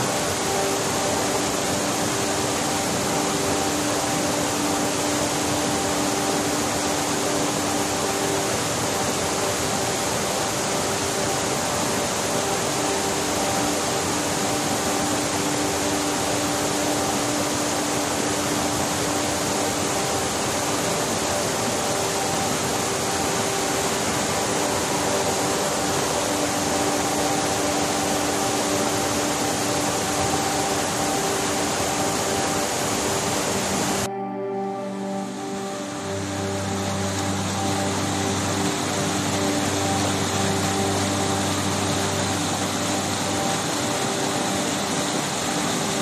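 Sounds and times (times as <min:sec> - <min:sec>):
waterfall pouring over rocks: 0:00.0 - 0:46.0.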